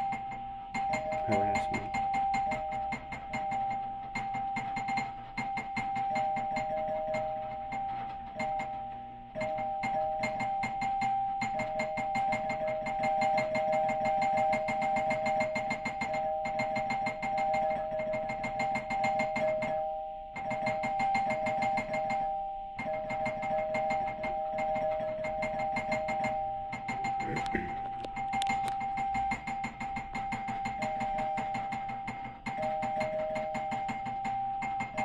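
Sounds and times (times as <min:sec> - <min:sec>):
two-tone electronic doorbell: 0:00.0 - 0:35.0.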